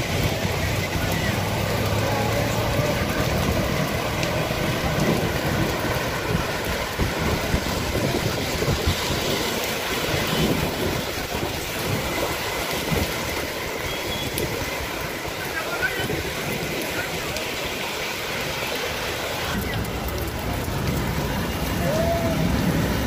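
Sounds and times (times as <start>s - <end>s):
heavy rain: 0.0s - 23.0s
street traffic: 0.0s - 23.0s
tyres splashing through water: 0.0s - 23.0s.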